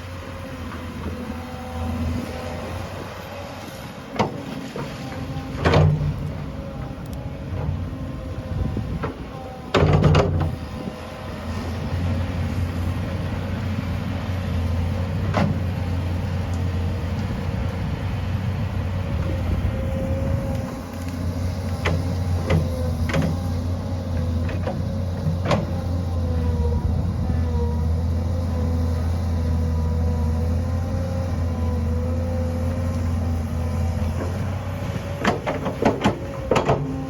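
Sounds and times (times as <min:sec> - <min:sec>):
tractor diesel engine running: 0:05.2 - 0:37.0.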